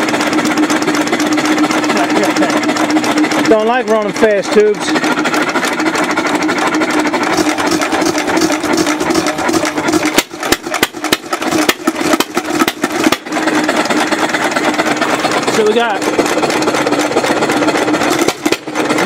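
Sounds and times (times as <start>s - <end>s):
engine knocking: 0.0s - 19.0s
gas engine chugging: 0.0s - 19.0s.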